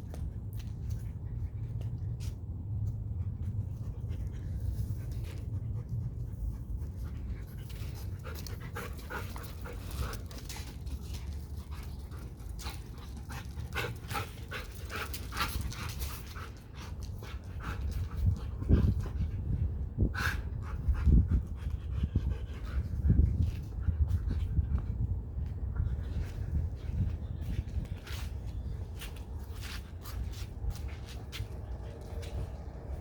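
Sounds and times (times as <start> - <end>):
dogs panting: 0.6 - 33.0.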